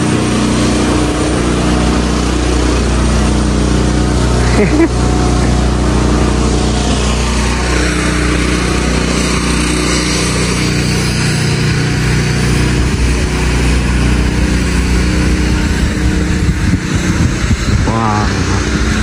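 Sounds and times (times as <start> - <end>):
vehicle drone: 0.0 - 19.0.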